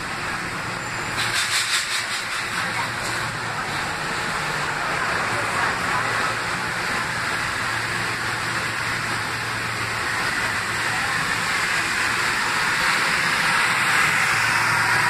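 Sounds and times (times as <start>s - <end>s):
electric train hiss: 0.0s - 15.0s.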